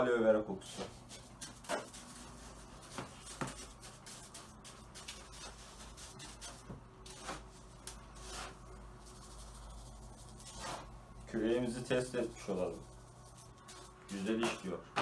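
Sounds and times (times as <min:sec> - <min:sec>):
scoop scraping through cat litter: 0:00.6 - 0:14.8.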